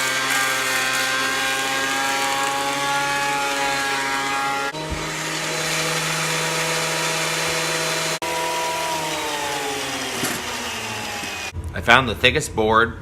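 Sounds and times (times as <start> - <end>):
thickness planer motor whine: 0.0 - 11.6.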